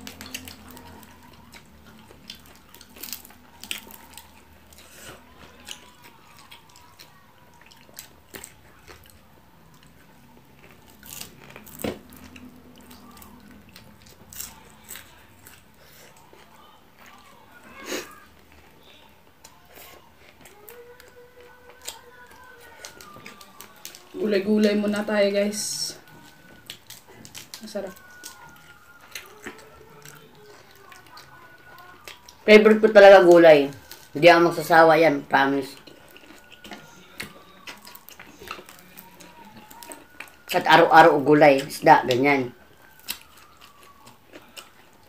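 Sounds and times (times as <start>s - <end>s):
crunching and chewing food: 0.0s - 45.0s.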